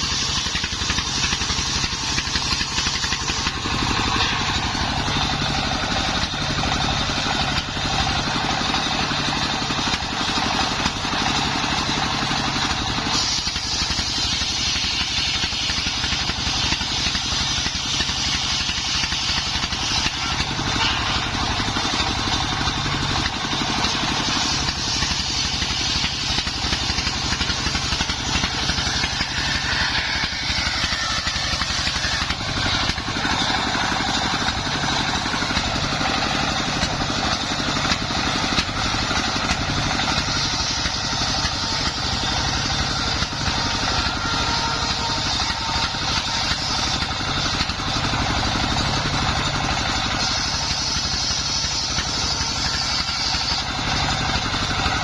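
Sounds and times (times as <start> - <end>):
engine pulsing: 0.0 - 55.0
saw blade whine: 0.0 - 55.0.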